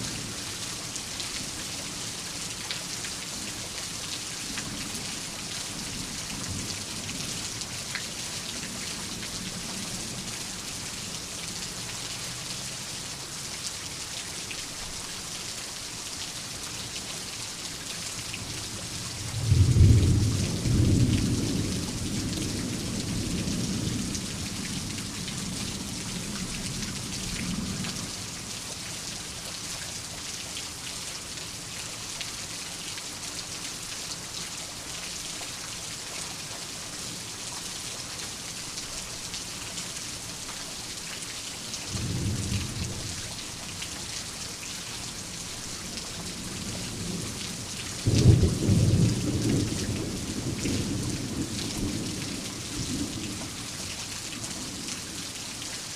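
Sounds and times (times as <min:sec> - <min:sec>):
heavy rainfall: 0:00.0 - 0:55.9.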